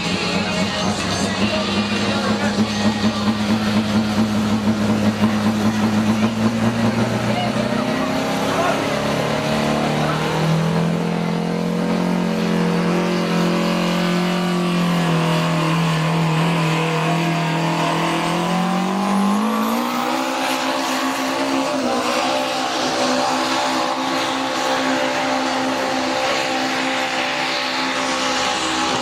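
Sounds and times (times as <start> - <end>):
engine running hard under load: 0.0 - 29.0.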